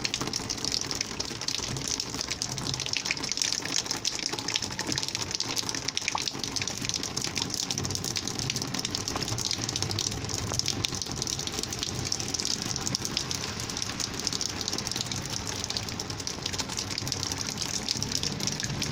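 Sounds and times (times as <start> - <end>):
rainwater gushing: 0.0 - 18.9.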